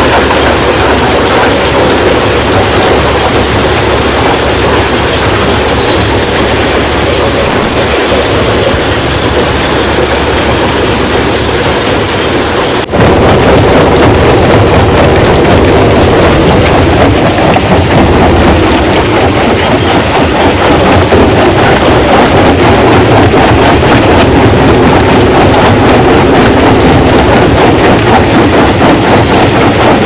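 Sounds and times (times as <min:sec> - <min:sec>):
stone-crushing machinery running: 0:00.0 - 0:30.0.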